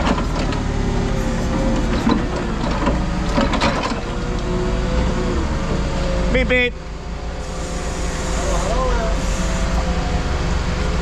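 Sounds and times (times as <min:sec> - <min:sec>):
heavy machinery running: 0:00.0 - 0:11.0.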